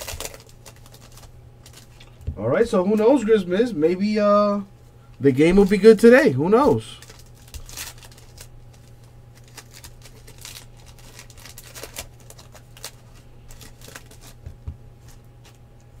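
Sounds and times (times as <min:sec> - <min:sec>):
cards and wrappers rustling: 0:00.0 - 0:02.3, 0:05.4 - 0:16.0
steady low hum: 0:00.0 - 0:16.0.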